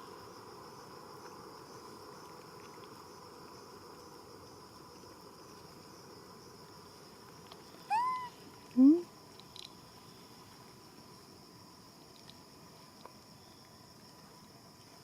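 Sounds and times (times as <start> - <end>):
constant high-pitched tone: 0.0 - 15.0
insect chirring: 0.0 - 15.0.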